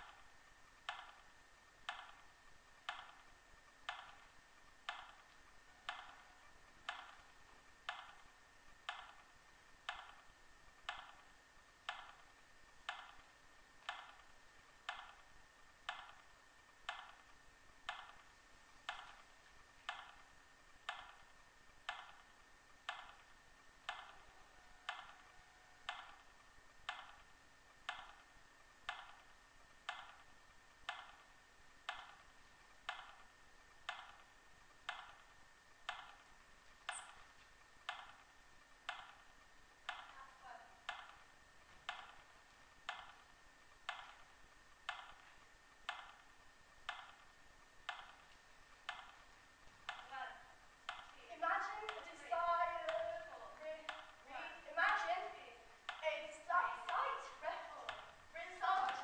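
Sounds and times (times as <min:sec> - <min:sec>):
clock ticking: 0:00.0 - 0:40.2, 0:40.8 - 0:50.2, 0:50.8 - 0:59.0.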